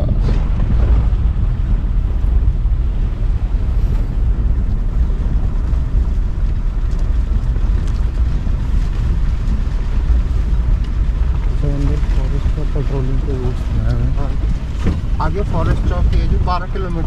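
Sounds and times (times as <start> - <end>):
engine and road rumble: 0.0 - 17.0
wind buffeting microphone: 0.0 - 17.0.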